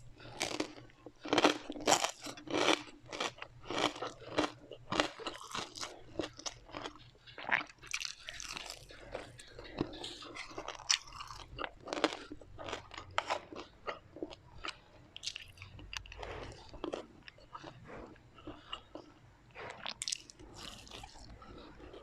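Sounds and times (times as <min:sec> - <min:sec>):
chewing crunchy fried food: 0:00.0 - 0:22.0.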